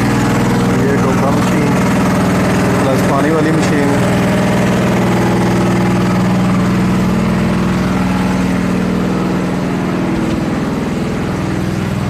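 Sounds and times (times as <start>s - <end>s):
water pump engine droning: 0.0s - 12.0s.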